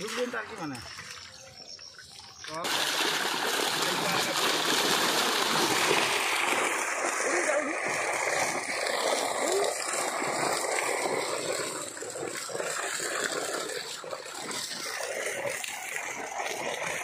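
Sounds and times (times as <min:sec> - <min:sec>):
water splashing and sloshing: 0:00.0 - 0:17.0
fish flapping in a net: 0:02.7 - 0:17.0.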